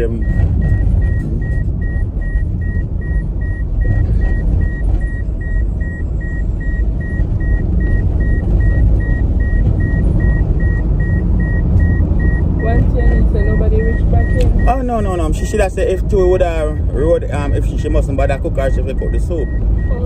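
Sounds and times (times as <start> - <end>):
car warning chime beeping: 0.0 - 20.0
engine and tyre rumble: 0.0 - 20.0.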